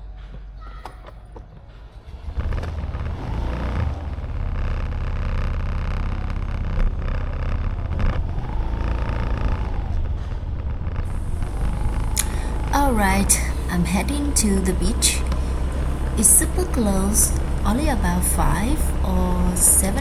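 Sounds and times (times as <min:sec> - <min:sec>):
motorbike engine rumbling: 0:02.0 - 0:20.0.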